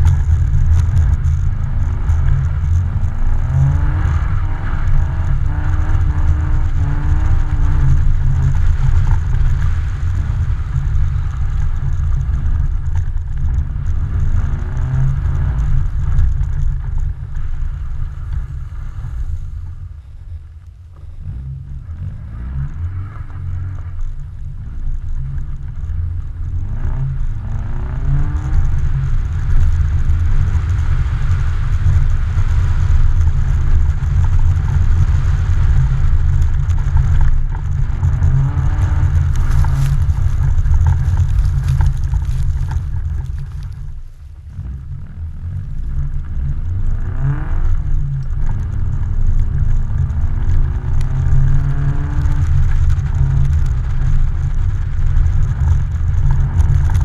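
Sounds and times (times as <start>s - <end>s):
car engine revving: 0.0s - 57.0s
wind buffeting microphone: 0.0s - 57.0s.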